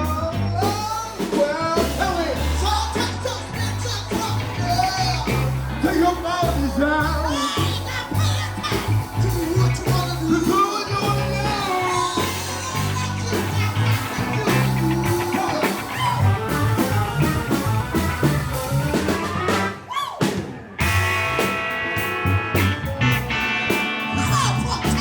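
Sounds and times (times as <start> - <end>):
bass line: 0.0 - 19.9, 20.8 - 25.0
drums: 0.0 - 25.0
funk band playing: 0.0 - 25.0.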